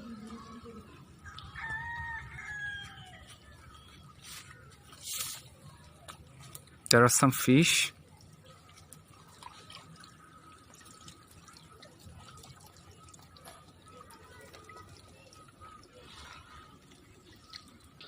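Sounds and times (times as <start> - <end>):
water dripping and trickling: 0.0 - 18.0.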